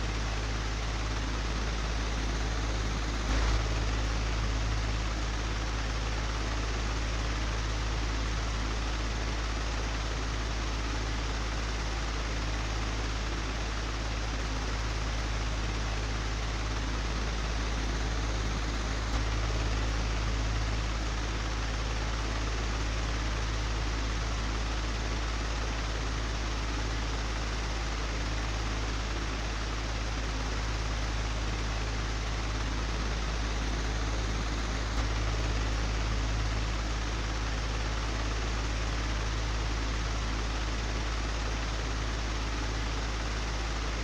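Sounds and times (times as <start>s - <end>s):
electric fan running: 0.0s - 44.0s.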